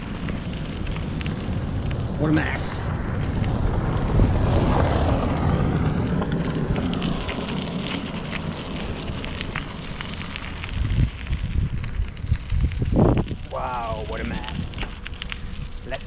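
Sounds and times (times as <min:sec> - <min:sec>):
bike rattling: 0:00.0 - 0:16.0
tyres crackling: 0:00.0 - 0:16.0
wind rushing over microphone: 0:00.0 - 0:16.0.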